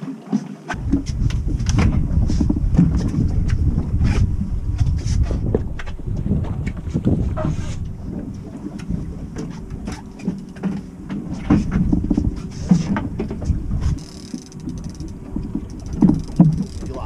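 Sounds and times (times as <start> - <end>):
knocks and clatter on boat: 0.0 - 17.0
low rumbling: 0.8 - 17.0.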